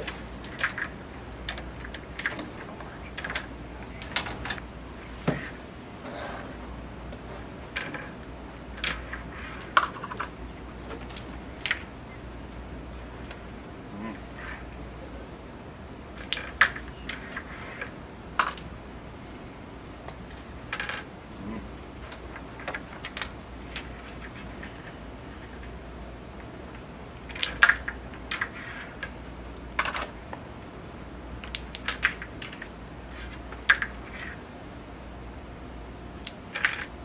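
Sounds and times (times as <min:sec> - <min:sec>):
wooden discs clicking: 0:00.0 - 0:14.8, 0:16.1 - 0:18.8, 0:20.0 - 0:34.4, 0:35.6 - 0:37.0.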